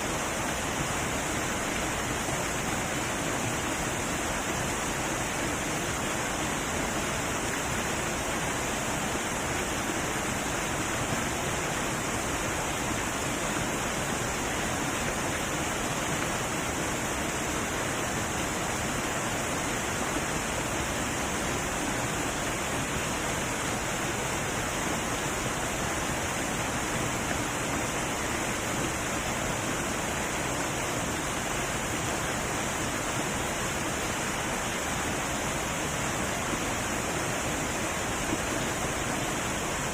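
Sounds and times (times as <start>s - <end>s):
heavy waterfall roaring: 0.0s - 39.9s.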